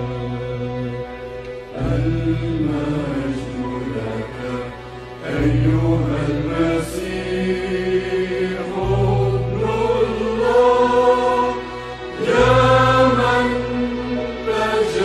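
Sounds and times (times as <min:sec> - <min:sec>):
choir singing a hymn: 0:00.0 - 0:15.0
low instrumental accompaniment: 0:00.0 - 0:15.0.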